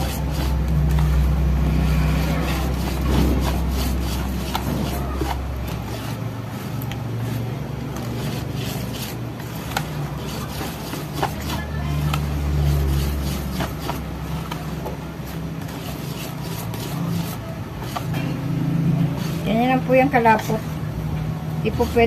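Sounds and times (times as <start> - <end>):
low motor-like hum: 0.0 - 22.0
whisk scraping metal bowl: 0.0 - 22.0.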